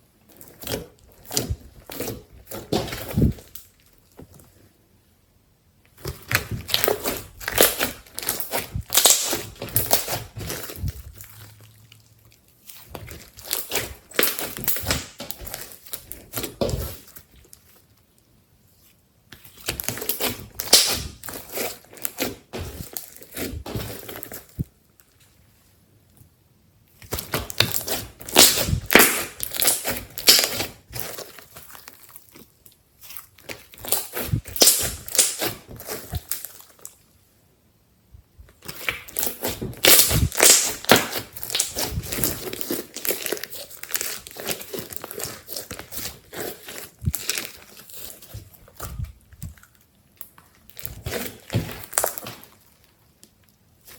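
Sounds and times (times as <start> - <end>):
hands squishing slime: 0.2 - 4.7, 5.9 - 24.8, 26.9 - 37.1, 38.4 - 53.9.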